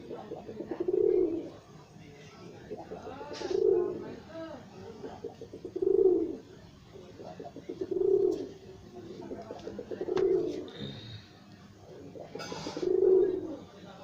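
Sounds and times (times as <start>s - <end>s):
pigeons cooing: 0.0s - 1.7s, 2.5s - 11.2s, 11.8s - 13.7s.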